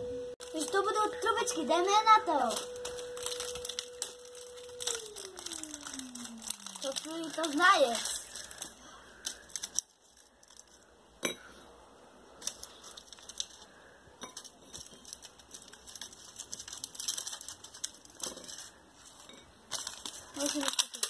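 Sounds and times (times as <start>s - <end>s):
foil wrapper crinkling: 0.4s - 10.9s, 12.4s - 21.0s.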